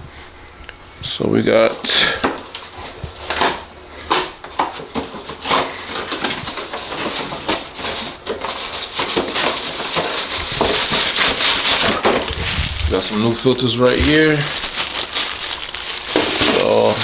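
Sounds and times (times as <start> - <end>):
air filters rustling and crinkling: 1.0 - 17.0.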